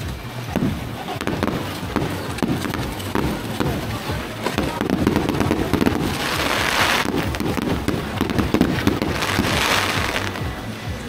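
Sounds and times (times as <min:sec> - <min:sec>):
fireworks crackling pops: 0:00.0 - 0:10.6.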